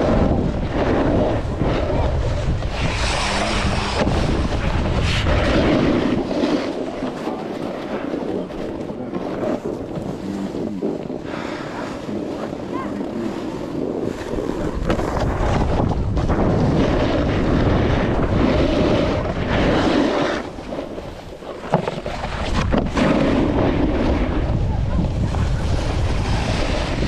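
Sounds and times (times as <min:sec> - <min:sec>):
snowboard carving through snow: 0:00.0 - 0:27.0
wind rushing over microphone: 0:00.0 - 0:27.0.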